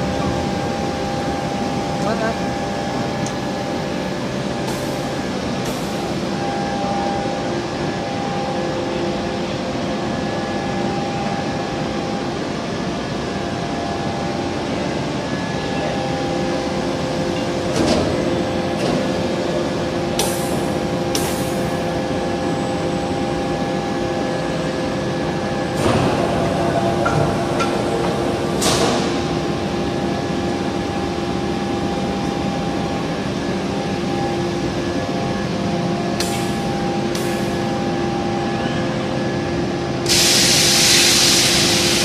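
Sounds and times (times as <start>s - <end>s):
machinery humming with steady tones: 0.0s - 42.0s.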